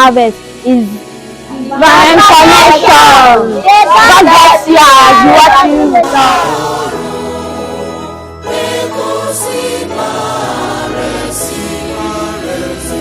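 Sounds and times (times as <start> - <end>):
instrumental accompaniment: 0.0 - 13.0
choir singing: 1.6 - 13.0.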